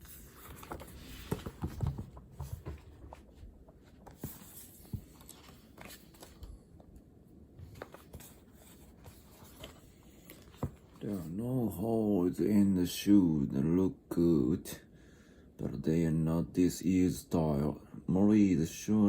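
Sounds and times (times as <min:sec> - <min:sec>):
faint room noise: 0:00.0 - 0:19.0.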